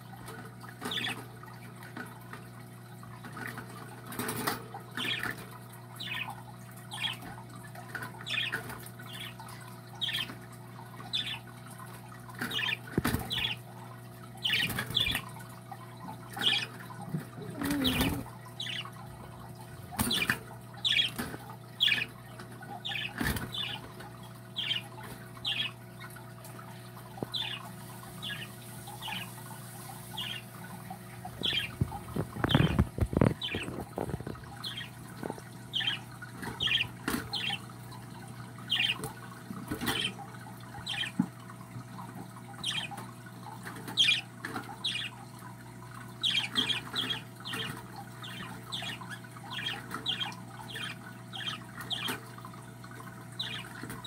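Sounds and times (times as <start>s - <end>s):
bird chicks peeping: 0.3s - 2.0s, 3.2s - 13.8s, 14.4s - 26.2s, 27.1s - 54.0s.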